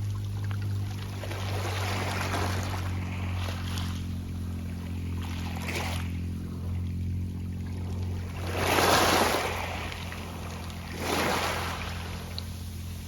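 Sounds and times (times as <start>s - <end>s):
waves rattling pebbles: 0.0s - 4.2s, 5.0s - 13.0s
steady low hum: 0.0s - 13.0s.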